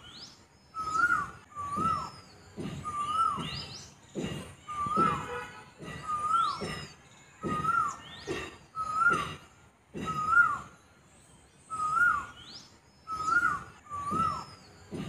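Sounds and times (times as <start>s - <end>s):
bird whistled calls: 0.0s - 9.4s, 10.0s - 10.8s, 11.6s - 15.0s.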